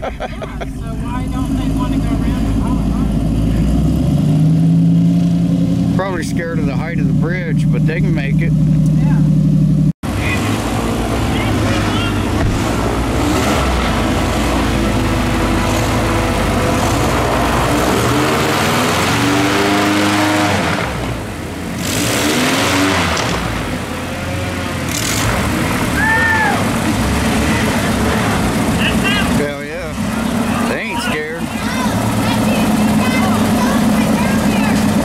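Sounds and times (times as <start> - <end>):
airboat engine and propeller revving: 0.0 - 35.0.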